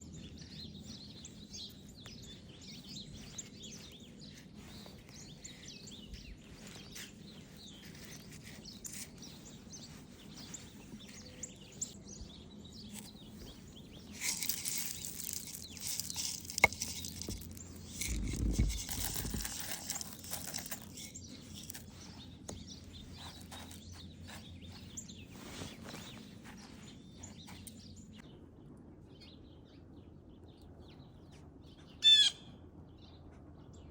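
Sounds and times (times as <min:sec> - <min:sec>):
birds chirping and twittering: 0:00.0 - 0:28.4
rustling noise: 0:00.1 - 0:27.9.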